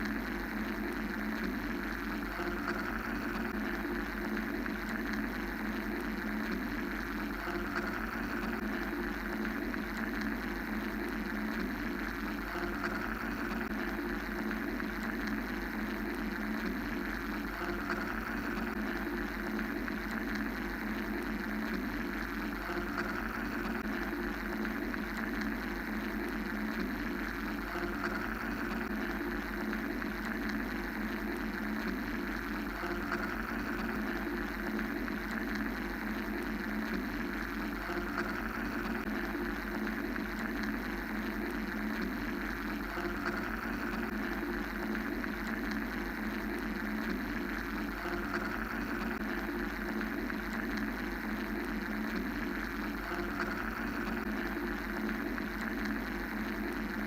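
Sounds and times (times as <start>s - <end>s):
mechanical white noise drone: 0.0s - 57.0s.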